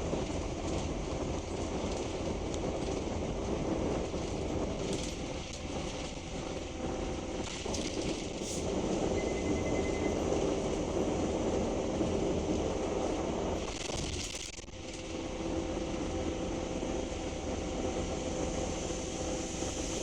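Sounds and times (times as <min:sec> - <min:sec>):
diesel bus engine running: 0:00.0 - 0:13.9, 0:14.7 - 0:20.0
road noise: 0:00.0 - 0:14.0, 0:14.7 - 0:20.0.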